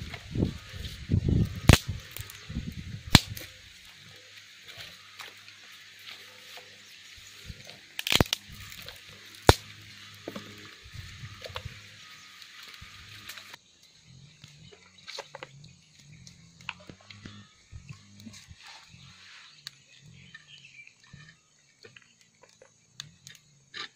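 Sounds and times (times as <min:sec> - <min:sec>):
twig fire crackling: 0:00.0 - 0:23.5.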